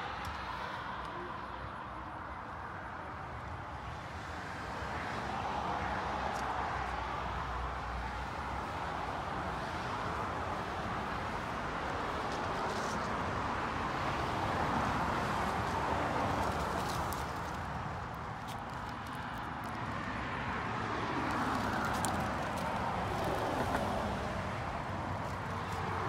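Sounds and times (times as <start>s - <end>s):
passing traffic road noise: 0.0s - 26.0s.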